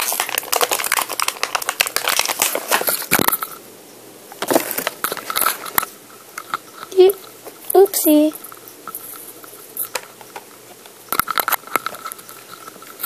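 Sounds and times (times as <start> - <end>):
plastic packaging crinkling: 0.0 - 3.6, 4.4 - 10.4, 11.1 - 13.0.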